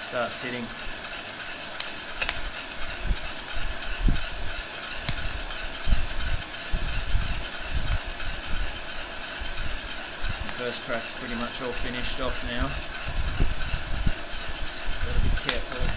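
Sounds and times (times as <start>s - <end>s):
heat gun blowing: 0.5s - 15.9s.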